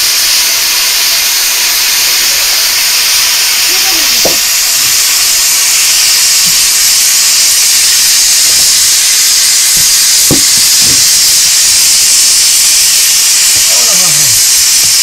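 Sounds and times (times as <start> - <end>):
pressure cooker hissing steam: 0.0 - 15.0.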